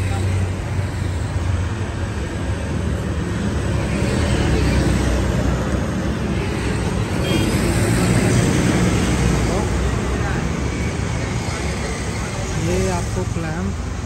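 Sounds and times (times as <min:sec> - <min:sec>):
low rumble of vehicles: 0:00.0 - 0:14.0.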